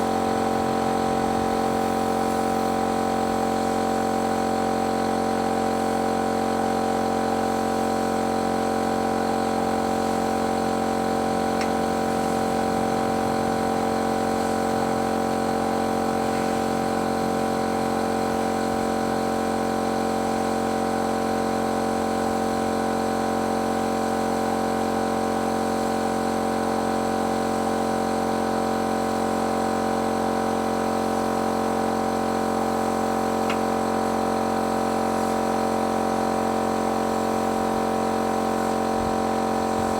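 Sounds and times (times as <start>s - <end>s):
paint sprayer motor humming: 0.0s - 26.5s, 27.1s - 39.9s.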